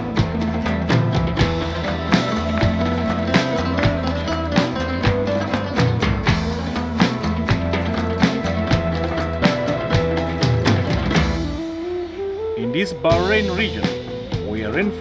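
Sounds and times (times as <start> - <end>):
low bass line: 0.0 - 14.9
music with steady beat: 0.0 - 15.0.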